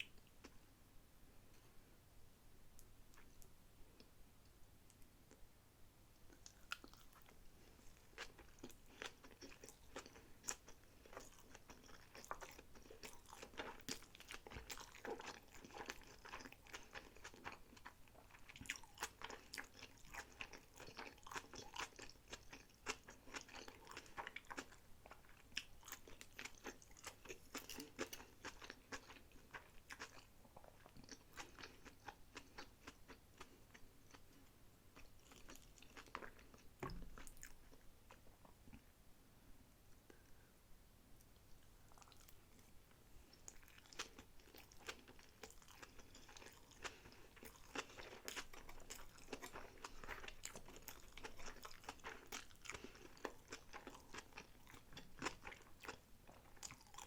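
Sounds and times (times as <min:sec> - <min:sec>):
soft crunches of chewing: 0:06.2 - 0:38.9, 0:41.2 - 0:57.0.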